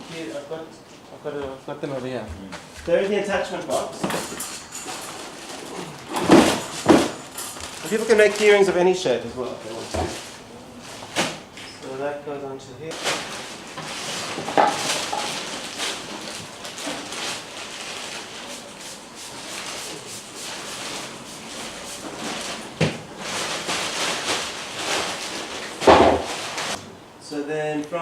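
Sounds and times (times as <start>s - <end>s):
craft materials rustling and scraping: 2.9s - 11.8s, 12.9s - 26.8s.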